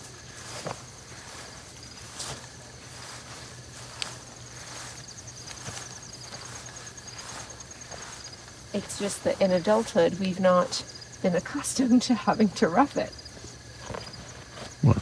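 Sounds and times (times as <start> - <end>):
footsteps on grass: 0.0 - 11.6, 12.3 - 15.0
crickets chirping: 0.0 - 15.0.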